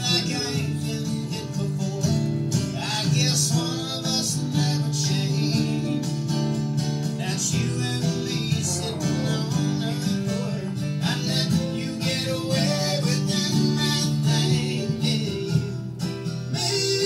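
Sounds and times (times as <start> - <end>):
electric guitar: 0.0 - 17.0
live rock music: 0.0 - 17.0.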